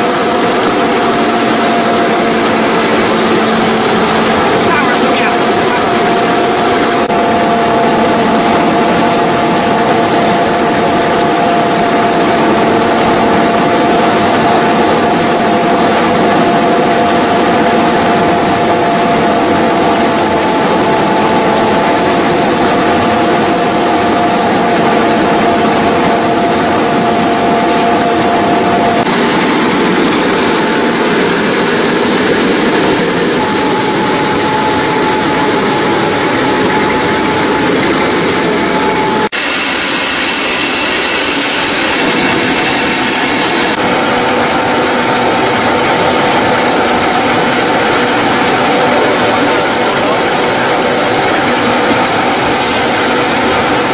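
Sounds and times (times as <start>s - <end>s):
milling machine grinding: 0.0s - 53.9s
steady machine whine: 0.0s - 53.9s.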